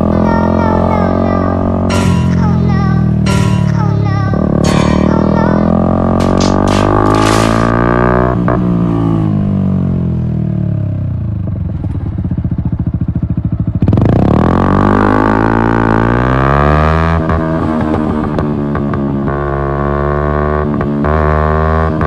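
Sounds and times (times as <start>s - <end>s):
motorcycle engine revving: 4.3s - 22.0s.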